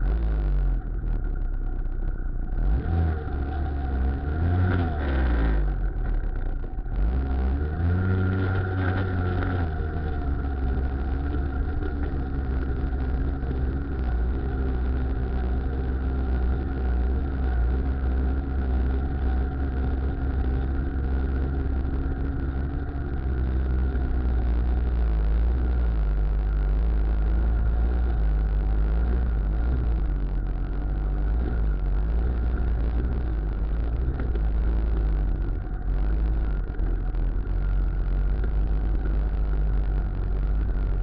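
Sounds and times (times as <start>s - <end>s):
two-stroke engine running: 0.0s - 41.0s.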